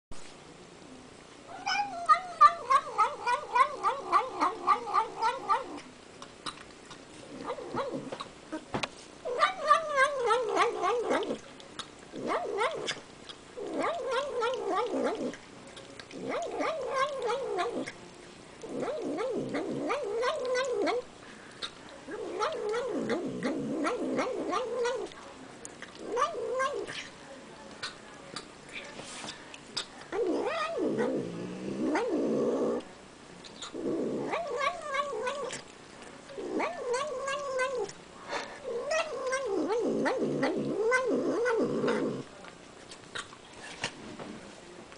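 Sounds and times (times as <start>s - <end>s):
cat murmuring while eating: 0.6s - 44.9s.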